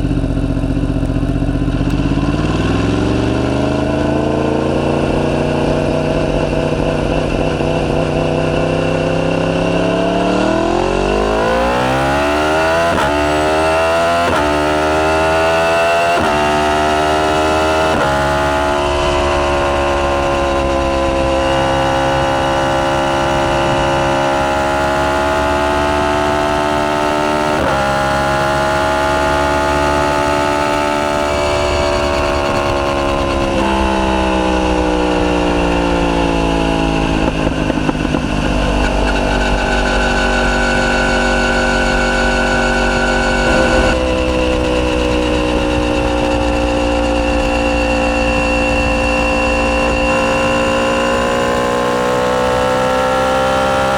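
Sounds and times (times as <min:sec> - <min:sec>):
motorcycle engine accelerating: 0:00.0 - 0:53.9
gear upshifts: 0:01.0 - 0:53.9.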